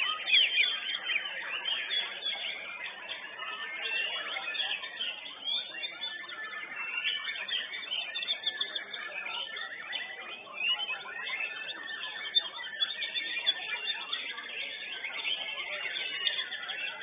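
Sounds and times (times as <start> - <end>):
songbirds whistling and trilling: 0.0 - 17.0.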